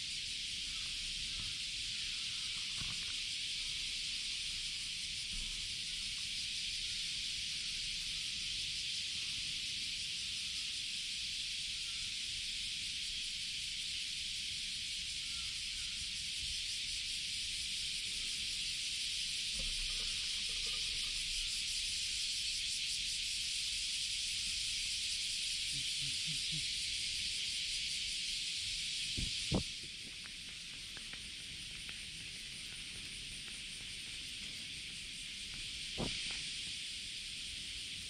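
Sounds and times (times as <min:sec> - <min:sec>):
high-pitched outdoor hiss: 0:00.0 - 0:38.0.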